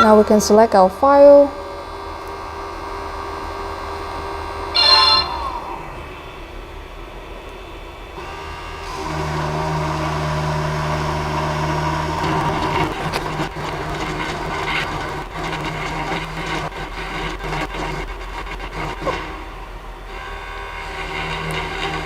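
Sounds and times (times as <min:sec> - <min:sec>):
spindle motor humming: 0:00.0 - 0:22.0.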